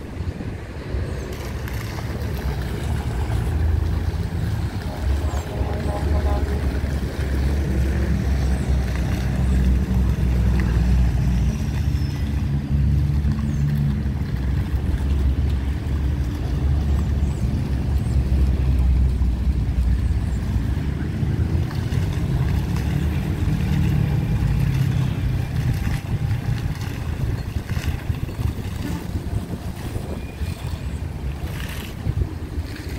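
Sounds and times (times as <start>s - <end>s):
city traffic hum: 0.0s - 32.9s
fountain water splashing: 0.0s - 32.9s
wind buffeting microphone: 0.0s - 32.9s.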